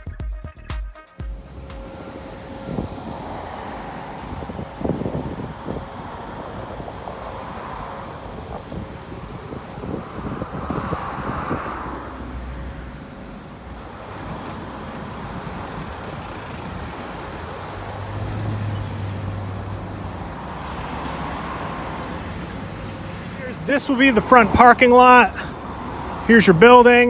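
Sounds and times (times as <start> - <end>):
cars passing: 1.2 - 27.0
low engine hum: 1.2 - 27.0.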